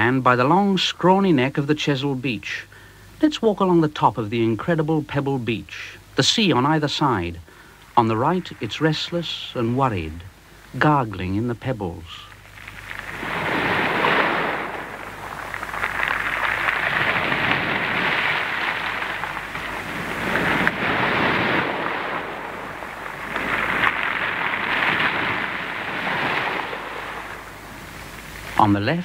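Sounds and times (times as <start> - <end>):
surf on shingle beach: 0.0 - 29.0.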